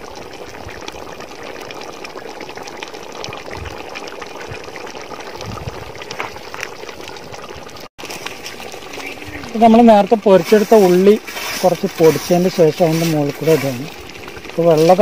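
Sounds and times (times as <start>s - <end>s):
curry simmering in a pot: 0.0s - 15.0s.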